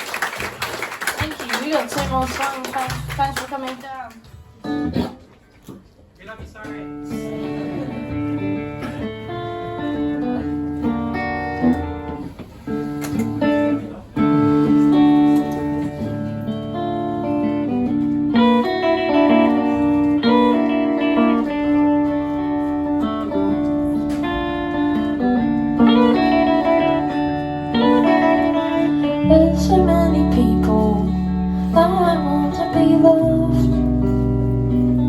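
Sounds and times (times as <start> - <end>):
band guitar chords ringing: 6.7 - 35.0.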